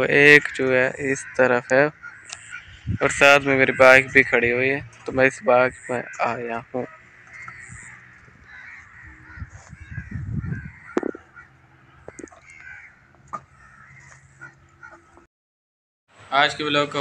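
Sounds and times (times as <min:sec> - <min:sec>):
bird calls: 0:00.0 - 0:15.3.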